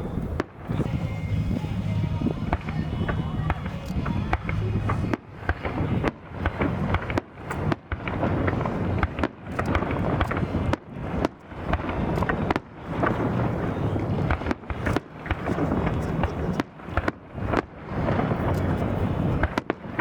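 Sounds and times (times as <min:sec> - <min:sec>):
fireworks crackling pops: 0:00.0 - 0:20.0
low rumble of firework bursts: 0:00.0 - 0:20.0.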